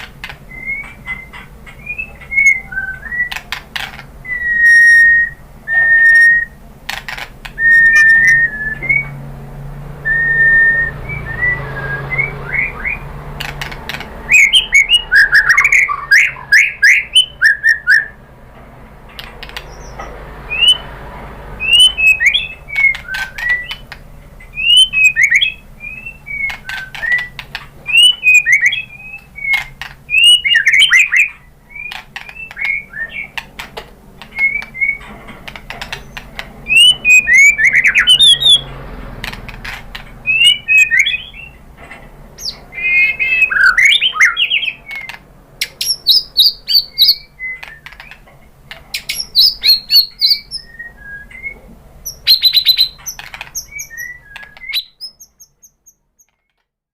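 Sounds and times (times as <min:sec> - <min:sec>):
songbird singing whistles: 0:00.4 - 0:06.6, 0:07.5 - 0:09.2, 0:10.0 - 0:13.2, 0:14.3 - 0:18.2, 0:19.6 - 0:21.0, 0:21.6 - 0:33.5, 0:34.2 - 0:35.1, 0:35.9 - 0:38.7, 0:39.6 - 0:41.6, 0:42.4 - 0:48.2, 0:49.0 - 0:56.6.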